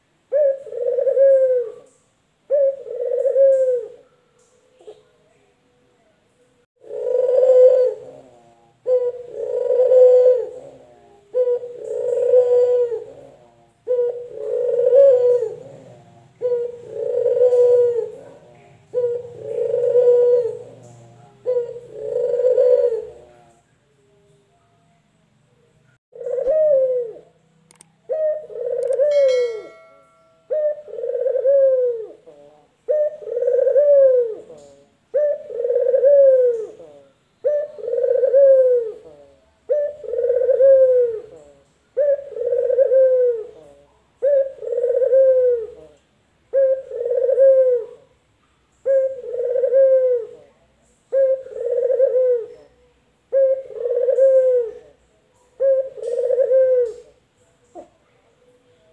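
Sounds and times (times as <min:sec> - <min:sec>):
dove cooing: 0:00.0 - 0:04.2, 0:06.8 - 0:23.6, 0:26.1 - 0:27.4, 0:28.0 - 0:48.1, 0:48.8 - 0:58.0.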